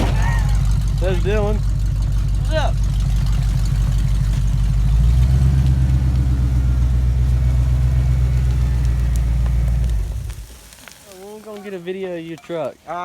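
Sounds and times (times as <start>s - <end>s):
pickup truck engine idling: 0.0s - 10.5s.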